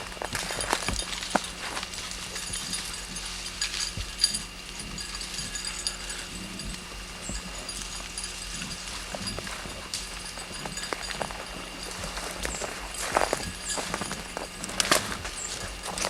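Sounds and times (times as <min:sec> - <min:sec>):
dry brush crackling and snapping: 0:00.0 - 0:16.0
footsteps in brush: 0:00.0 - 0:16.0.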